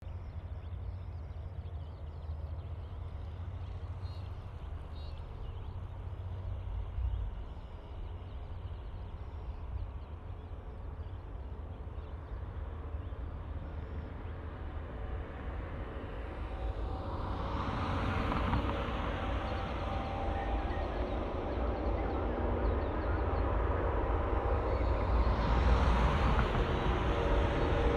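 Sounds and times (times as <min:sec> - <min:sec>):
distant jet engines rumbling: 0:00.4 - 0:27.9.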